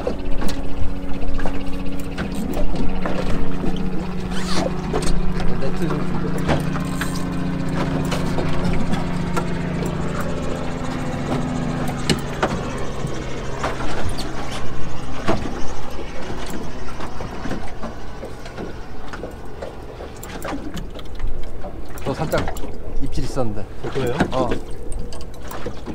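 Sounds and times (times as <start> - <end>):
boat engine idling: 0.0 - 25.9
knocks and clicks on boat: 0.0 - 25.9.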